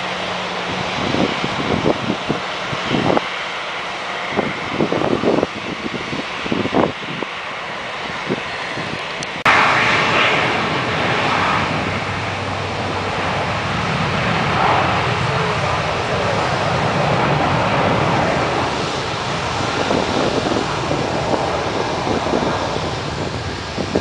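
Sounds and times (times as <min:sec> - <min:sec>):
distant jet engines: 0:00.0 - 0:24.0
jet engines rushing close by: 0:00.0 - 0:24.0
wind buffeting microphone: 0:00.0 - 0:24.0.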